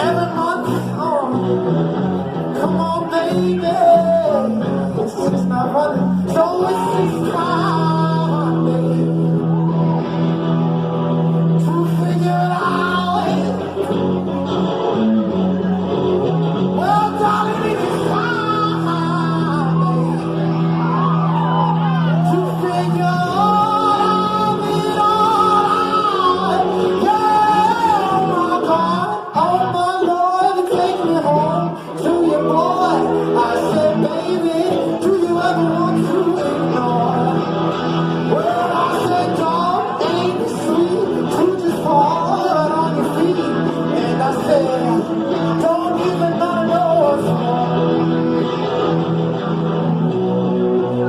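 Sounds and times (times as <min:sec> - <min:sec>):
bass guitar: 0:00.0 - 0:51.0
guitar: 0:00.0 - 0:51.0
live band playing: 0:00.0 - 0:51.0
person singing long notes: 0:00.0 - 0:51.0.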